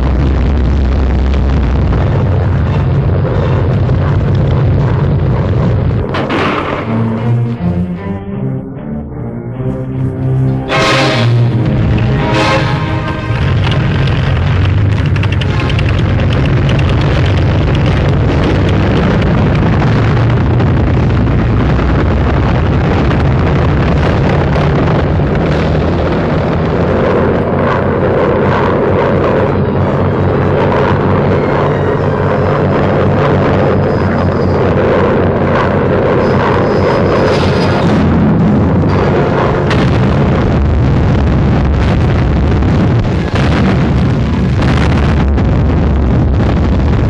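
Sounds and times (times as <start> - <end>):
aircraft engines droning: 0.0 - 45.1.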